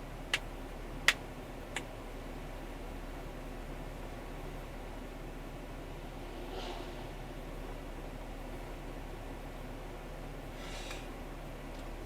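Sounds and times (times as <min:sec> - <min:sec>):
car driving rumble and hiss: 0:00.0 - 0:12.0.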